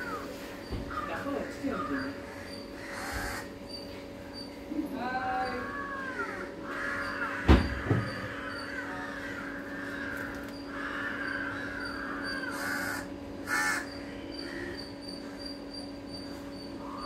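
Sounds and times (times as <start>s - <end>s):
crows cawing: 0.0s - 3.6s, 5.3s - 15.6s, 16.2s - 17.0s
steady low hum: 0.0s - 17.0s.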